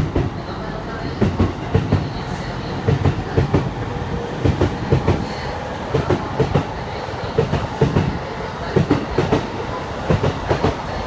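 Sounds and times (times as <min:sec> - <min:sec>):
train rolling rumble: 0:00.0 - 0:11.0
train wheels clicking on rail joints: 0:00.0 - 0:11.0.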